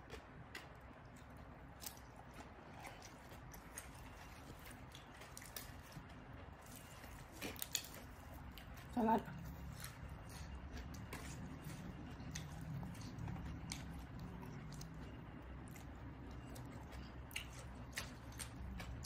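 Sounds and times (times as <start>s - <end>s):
low steady hum: 0.0s - 19.0s
person chewing food: 0.0s - 19.0s.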